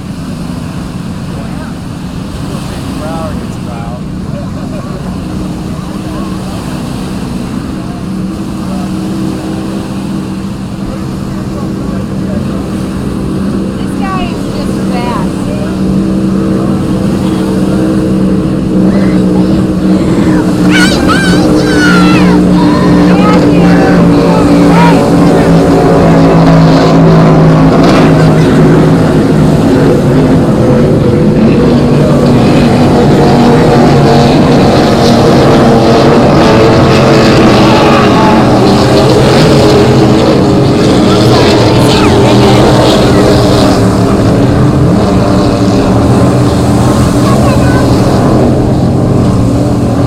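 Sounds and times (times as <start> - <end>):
powerboat engines droning: 0.0 - 50.0.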